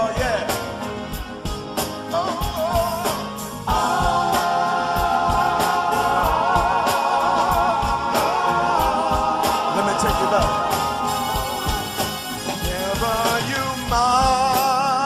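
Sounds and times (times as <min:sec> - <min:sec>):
slow drum beat: 0:00.0 - 0:14.9
vocal group holding harmony: 0:01.9 - 0:15.0.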